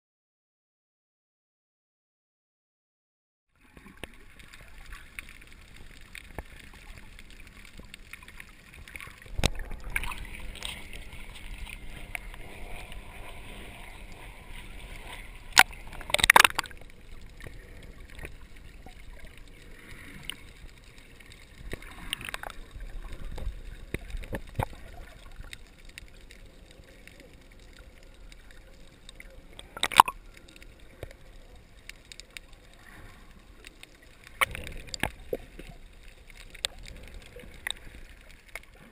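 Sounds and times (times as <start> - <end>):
muffled underwater sloshing: 3.6 - 38.9.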